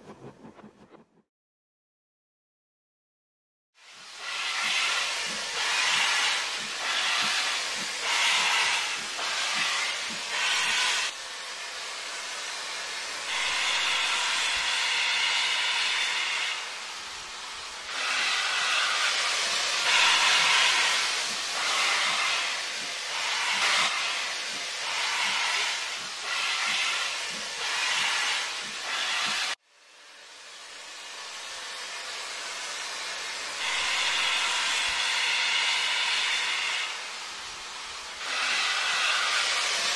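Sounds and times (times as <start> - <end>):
steam hissing: 3.8 - 39.9
steam locomotive chuffing: 4.0 - 39.9.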